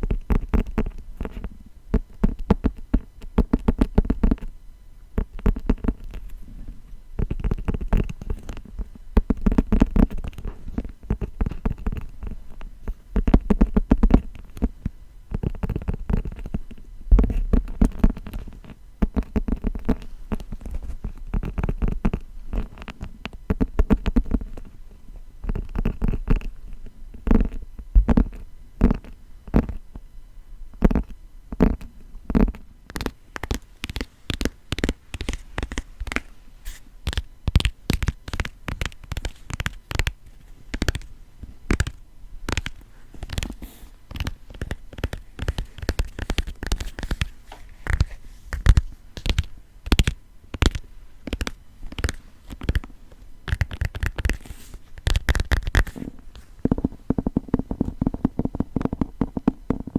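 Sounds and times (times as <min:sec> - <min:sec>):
fingers tapping on book cover: 0:00.0 - 0:04.5, 0:05.2 - 0:06.4, 0:07.2 - 0:24.7, 0:25.4 - 0:26.6, 0:27.2 - 0:29.8, 0:30.8 - 0:59.9.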